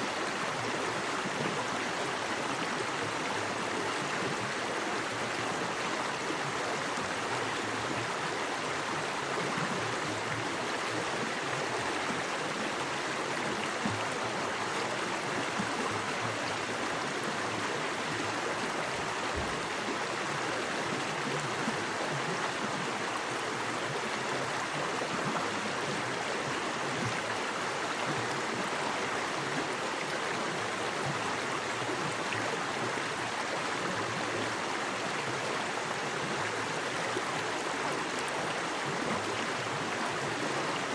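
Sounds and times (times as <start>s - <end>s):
creek water rushing over rocks: 0.0s - 40.9s.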